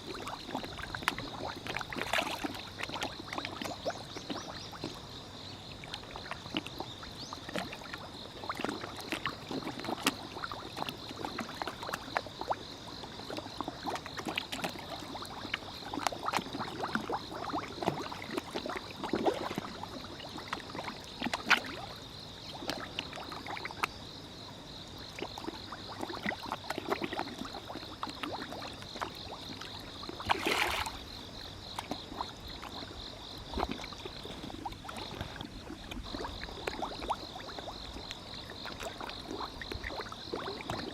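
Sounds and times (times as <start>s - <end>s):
fish splashing and slurping: 0.0s - 5.1s, 5.8s - 24.0s, 25.0s - 40.9s
insect trill: 0.0s - 40.9s.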